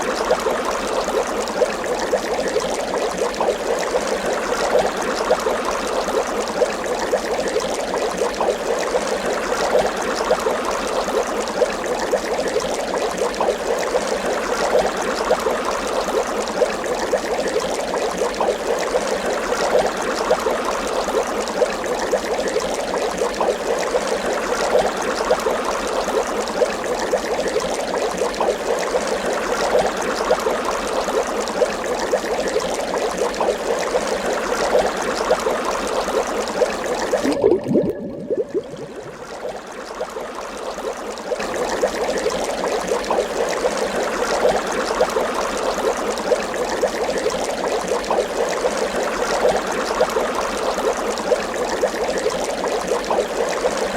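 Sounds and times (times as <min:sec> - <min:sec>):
water bubbling and gurgling: 0:00.0 - 0:53.9.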